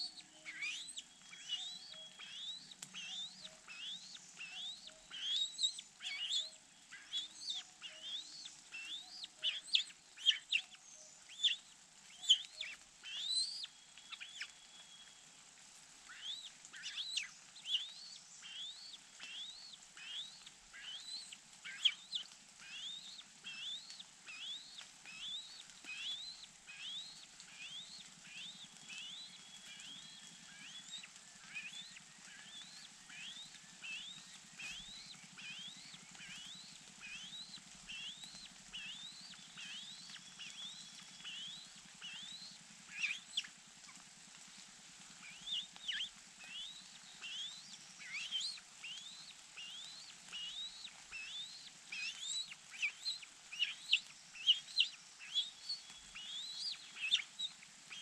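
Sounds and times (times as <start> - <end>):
bird chirping: 0.0 - 15.2, 16.0 - 43.5, 45.2 - 58.0.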